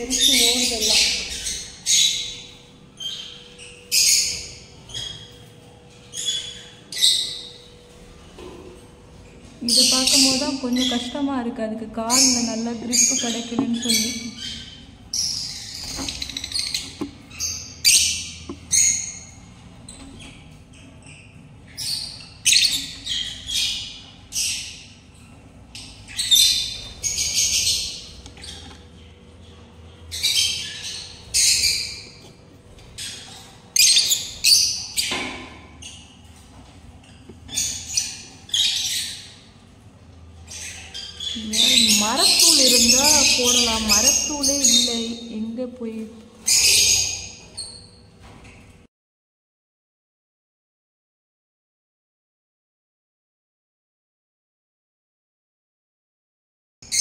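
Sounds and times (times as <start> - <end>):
birds squawking: 0.0 - 48.7.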